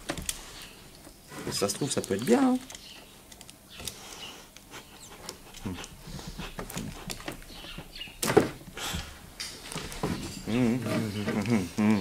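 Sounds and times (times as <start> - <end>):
hands working at electrical connector: 0.0 - 11.6.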